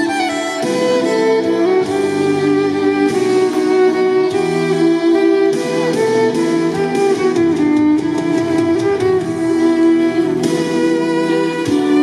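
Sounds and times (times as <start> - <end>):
violin playing slow melody: 0.0 - 12.0.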